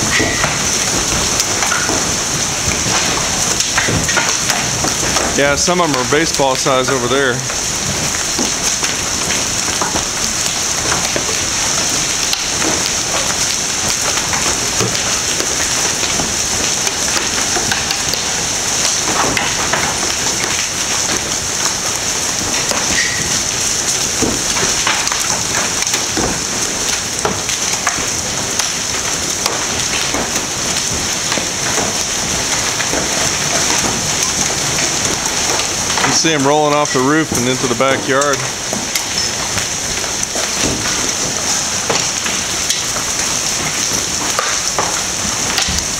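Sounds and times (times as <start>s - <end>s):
hailstones clattering: 0.0s - 45.9s
hiss of falling ice and rain: 0.0s - 45.9s.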